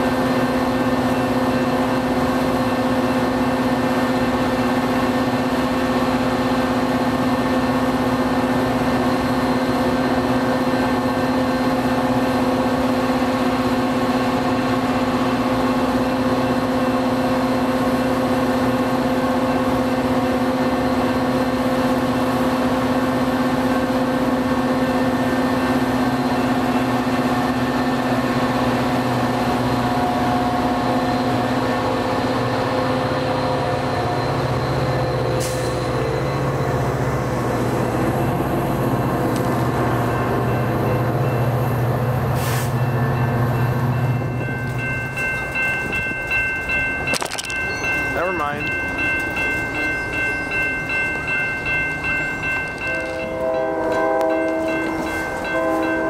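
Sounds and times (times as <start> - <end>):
diesel locomotive engine running: 0.0 - 56.0.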